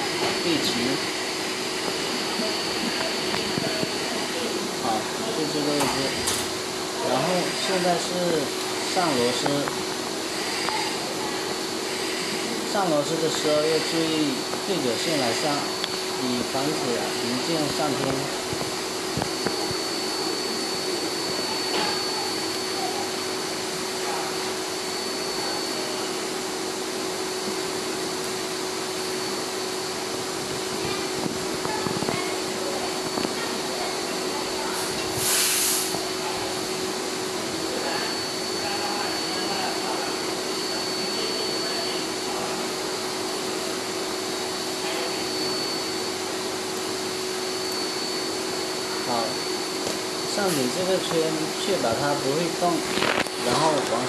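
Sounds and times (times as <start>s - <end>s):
air blower whirring: 0.0s - 54.0s
fan whooshing with high whine: 0.0s - 54.0s.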